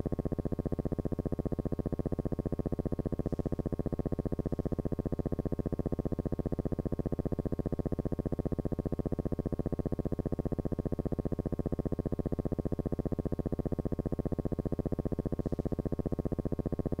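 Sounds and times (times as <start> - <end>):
low pulsing buzz: 0.0 - 17.0.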